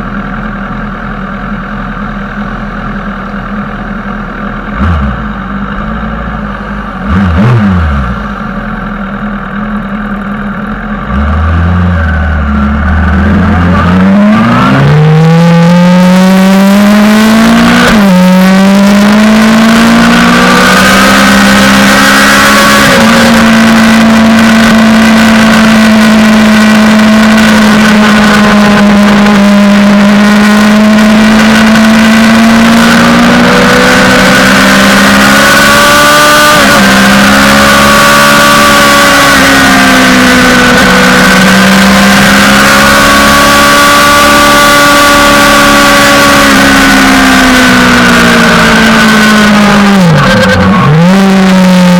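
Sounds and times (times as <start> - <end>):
motorcycle engine revving: 2.3 - 51.9.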